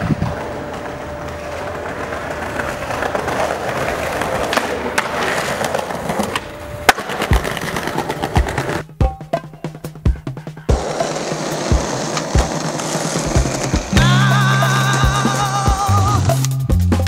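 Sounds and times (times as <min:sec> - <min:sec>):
skateboard wheels rolling on paving: 0:00.0 - 0:08.9, 0:10.7 - 0:16.5
skateboard clacking on ground: 0:00.0 - 0:15.6.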